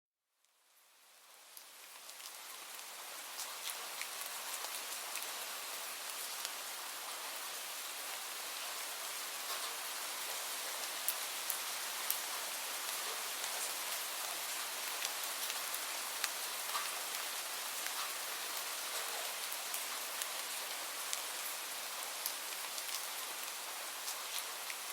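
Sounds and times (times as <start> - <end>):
light rain hissing: 0.4 - 24.9.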